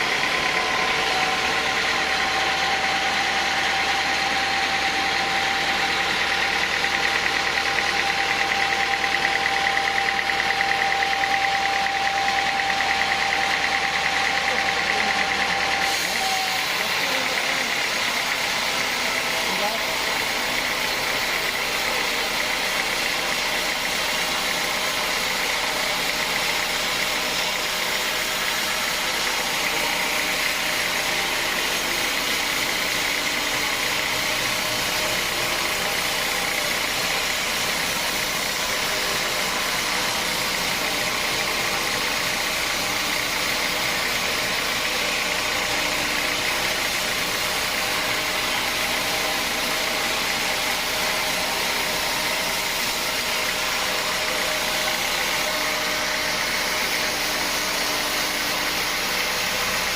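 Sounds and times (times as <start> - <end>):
sawmill machinery humming: 0.0 - 59.9.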